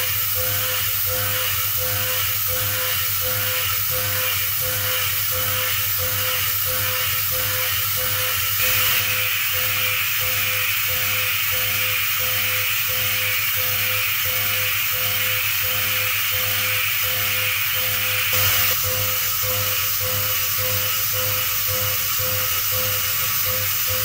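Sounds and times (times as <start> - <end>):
milling machine hiss: 0.0 - 24.0.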